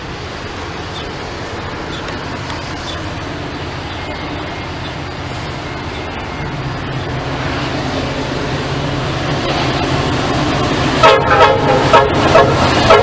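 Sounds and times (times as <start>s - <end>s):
diesel train engine rumble: 0.0s - 13.0s.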